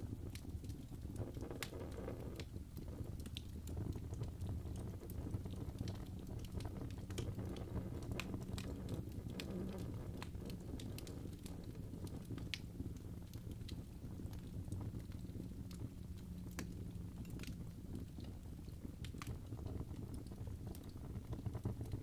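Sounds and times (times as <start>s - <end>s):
fireplace crackling: 0.0s - 22.0s.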